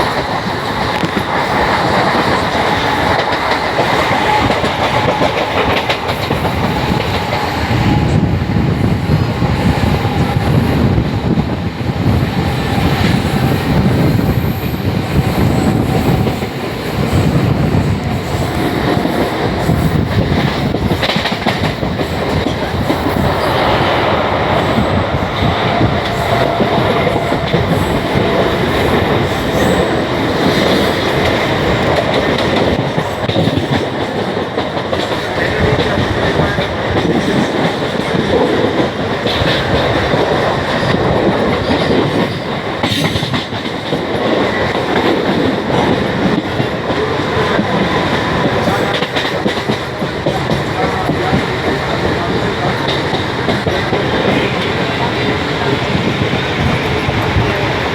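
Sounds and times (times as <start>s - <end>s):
train wheels clattering on rails: 0.0s - 57.9s.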